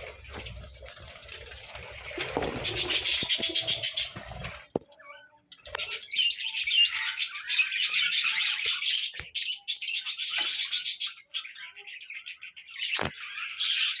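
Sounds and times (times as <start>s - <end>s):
budgerigars chattering and chirping: 0.0s - 14.0s.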